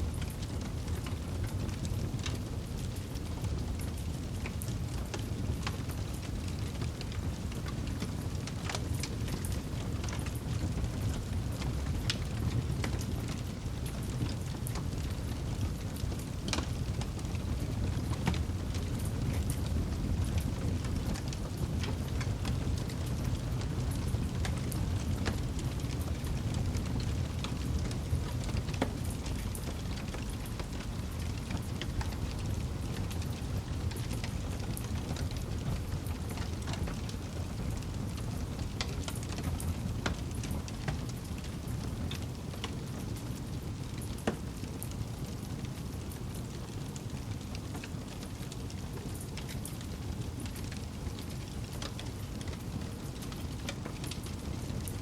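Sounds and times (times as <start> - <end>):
fire crackles and pops: 0.0 - 55.0
campfire flame rushing: 0.2 - 54.9.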